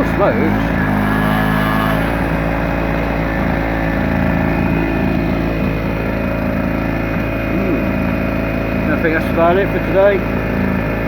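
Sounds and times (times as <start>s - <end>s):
portable generator engine running: 0.0s - 11.0s.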